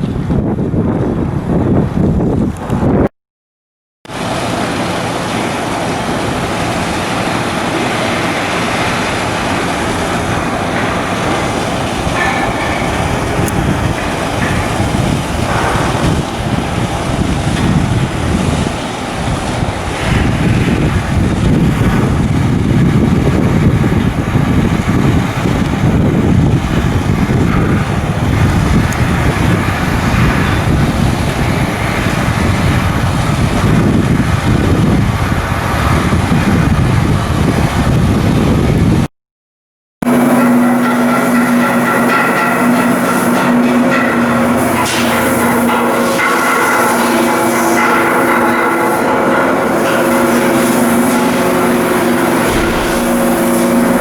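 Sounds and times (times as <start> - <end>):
heavy machinery rumbling: 4.1 - 39.0, 40.0 - 54.0.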